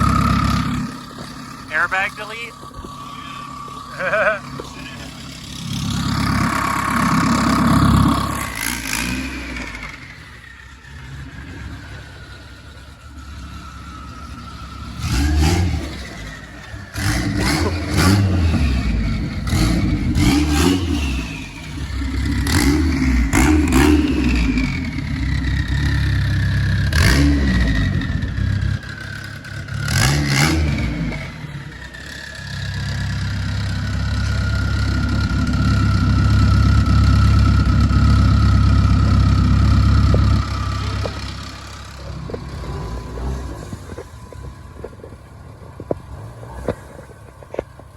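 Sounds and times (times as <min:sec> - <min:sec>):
car engine idling: 0:00.0 - 0:47.9
car engine revving: 0:00.0 - 0:47.9.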